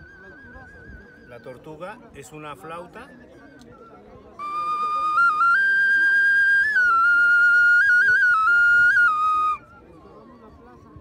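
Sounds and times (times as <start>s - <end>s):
small flute whistling note: 0.0s - 1.8s, 2.8s - 11.0s.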